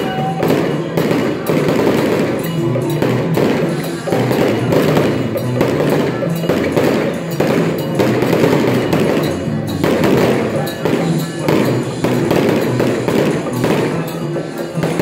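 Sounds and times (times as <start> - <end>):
firecrackers crackling: 0.0 - 15.0
procession music and percussion: 0.0 - 15.0.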